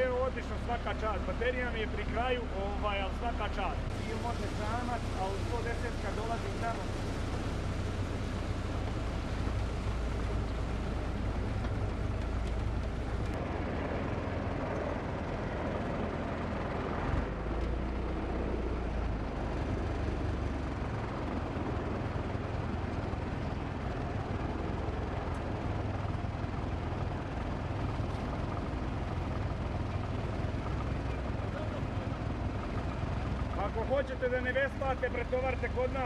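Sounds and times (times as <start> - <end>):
heavy engine rumbling: 0.0 - 36.0.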